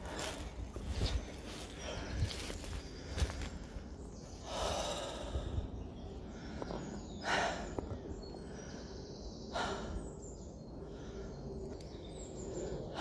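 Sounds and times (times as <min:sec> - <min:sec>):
man breathing hard: 0:00.0 - 0:11.6.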